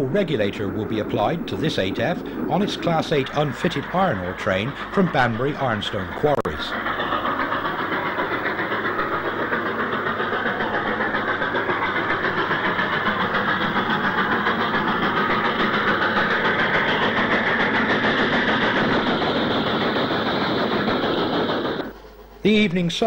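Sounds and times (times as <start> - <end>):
steam locomotive exhaust beats: 0.0 - 23.0.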